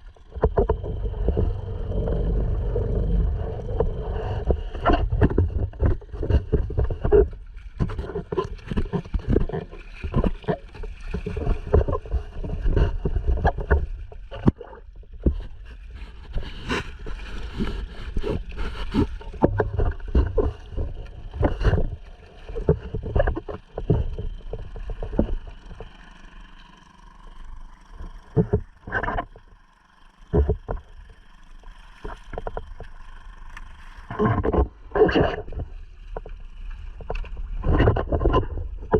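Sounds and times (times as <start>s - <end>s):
outboard motor humming: 0.0s - 38.9s
water splashing against kayak hull: 0.0s - 38.9s.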